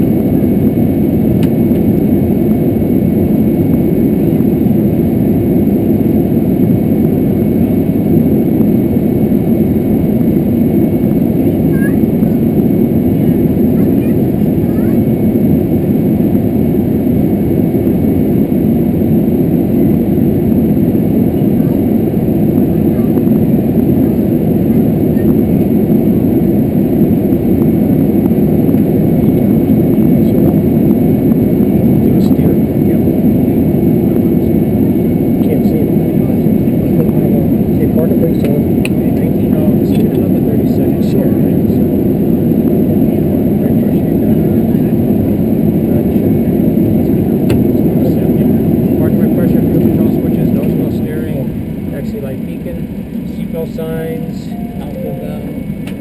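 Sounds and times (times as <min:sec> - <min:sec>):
small aircraft engines rumbling: 0:00.0 - 0:56.0.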